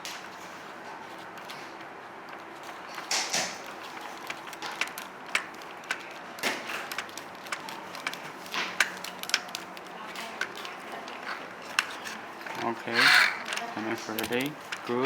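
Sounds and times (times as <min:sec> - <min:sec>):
clicks and knocks of parts: 0:01.4 - 0:15.0.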